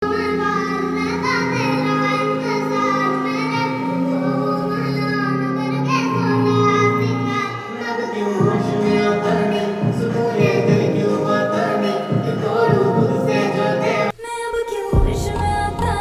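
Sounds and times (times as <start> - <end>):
sustained instrumental backing: 0.0 - 14.1
high-pitched singing: 0.0 - 16.0.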